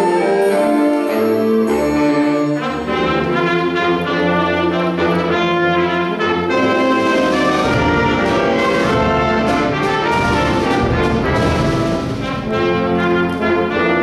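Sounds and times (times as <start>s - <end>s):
concert band playing chords: 0.0s - 14.0s.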